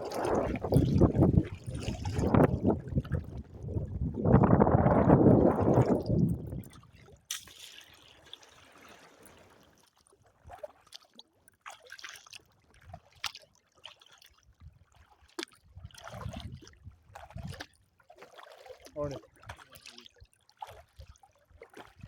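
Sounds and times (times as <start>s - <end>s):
small splashes and drips: 0.0s - 4.2s, 5.6s - 22.0s
water trickling and lapping: 0.0s - 22.0s.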